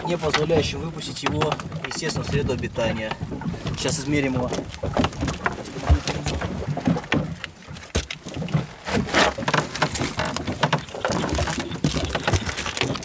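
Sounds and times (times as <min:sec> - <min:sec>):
knocks and rustles on boat deck: 0:00.0 - 0:13.0.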